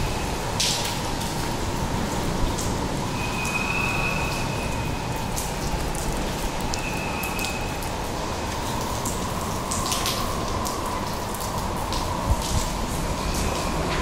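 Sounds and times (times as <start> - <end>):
drips and splashes: 0.0 - 14.0
heavy rain pouring: 0.0 - 14.0.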